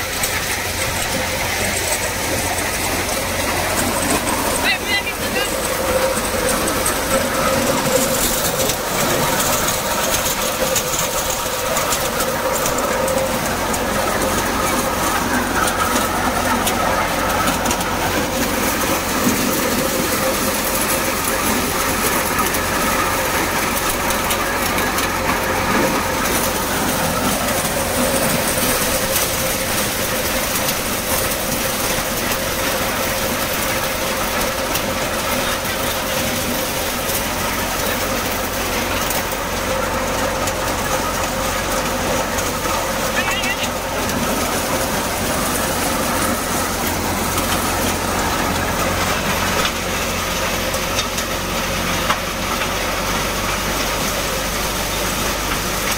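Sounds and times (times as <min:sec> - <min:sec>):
thresher clattering and humming: 0:00.0 - 0:55.9.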